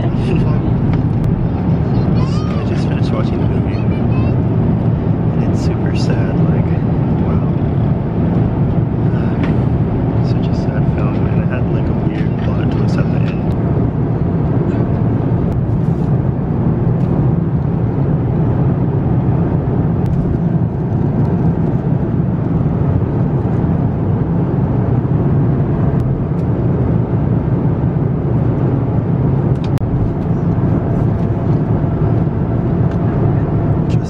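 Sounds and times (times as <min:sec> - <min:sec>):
airliner cabin drone: 0:00.0 - 0:34.0.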